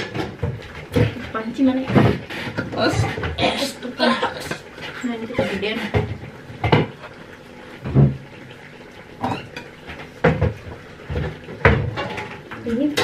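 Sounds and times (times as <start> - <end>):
pots knocking: 0.0 - 7.2, 9.2 - 13.0.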